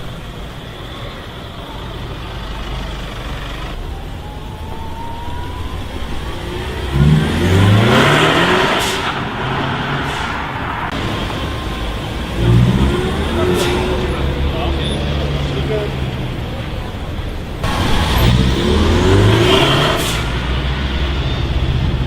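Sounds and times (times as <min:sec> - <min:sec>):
street traffic noise: 0:00.0 - 0:22.0
car engine accelerating hard: 0:01.3 - 0:22.0.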